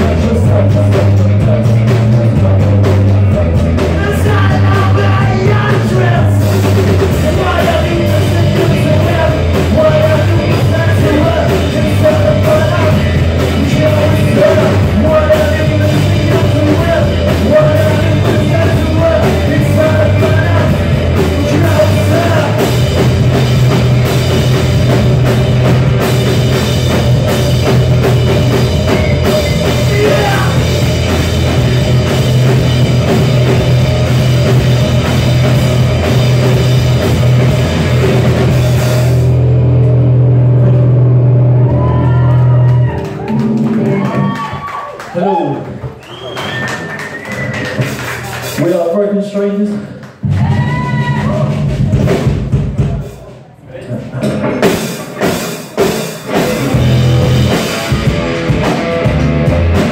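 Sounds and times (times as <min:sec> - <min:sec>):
bass guitar: 0:00.0 - 0:45.0, 0:45.6 - 0:49.0, 0:49.8 - 0:59.9
electric guitar: 0:00.0 - 0:45.0, 0:54.2 - 0:59.9
drum kit: 0:00.0 - 0:49.0, 0:50.1 - 0:59.9.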